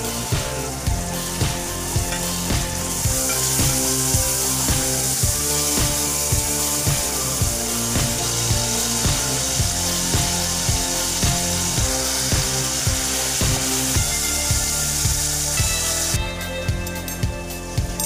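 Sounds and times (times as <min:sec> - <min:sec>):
food frying in oil: 0:00.0 - 0:16.2
music with a steady beat: 0:00.0 - 0:18.0.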